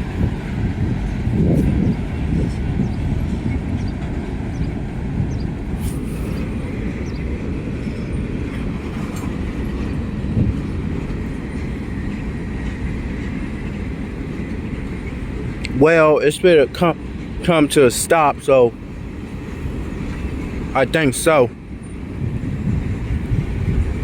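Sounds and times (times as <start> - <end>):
freight train rolling on rails: 0.0 - 24.0.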